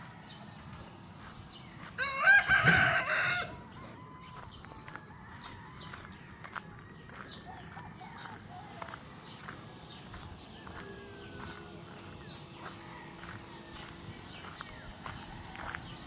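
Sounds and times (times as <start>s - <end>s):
footsteps: 0.3s - 16.0s.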